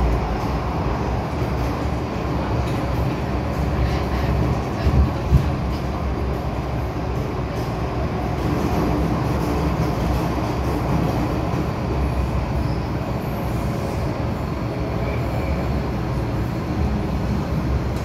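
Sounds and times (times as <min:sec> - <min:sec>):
train running in tunnel: 0:00.0 - 0:18.0.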